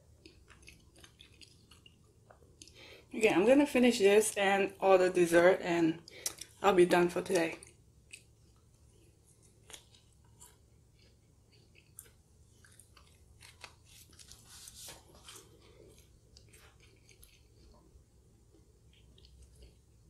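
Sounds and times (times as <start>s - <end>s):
chewing crunchy food: 0.0s - 3.1s, 6.0s - 6.6s, 7.3s - 20.0s.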